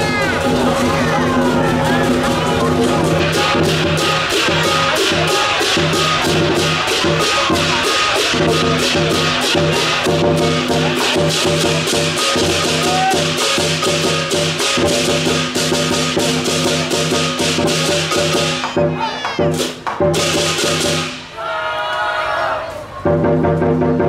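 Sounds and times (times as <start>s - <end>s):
large drum beaten fast: 0.0s - 21.2s, 23.0s - 24.0s
cymbals clashing: 0.0s - 21.4s.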